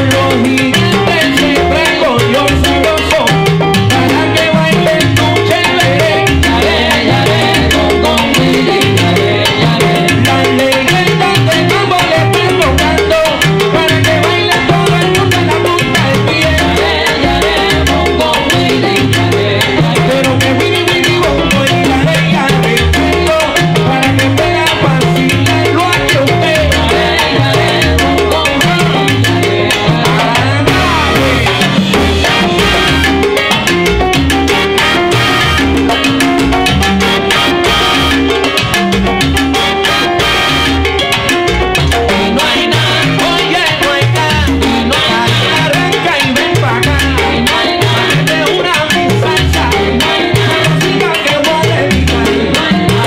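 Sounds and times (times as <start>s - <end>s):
bass line: 0.0s - 53.0s
latin percussion: 0.0s - 53.0s
salsa band playing: 0.0s - 53.0s.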